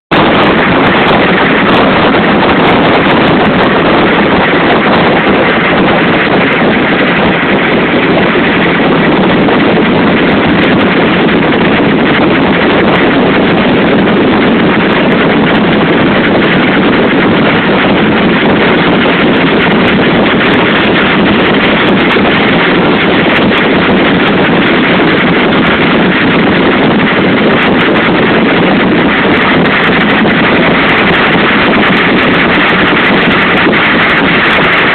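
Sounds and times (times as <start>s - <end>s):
motorboat rushing noise: 0.0s - 34.9s
wind buffeting microphone: 0.1s - 34.9s.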